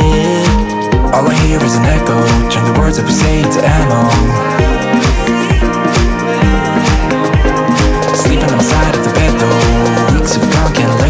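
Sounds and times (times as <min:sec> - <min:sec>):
instrumental pop music with deep beat: 0:00.0 - 0:11.0.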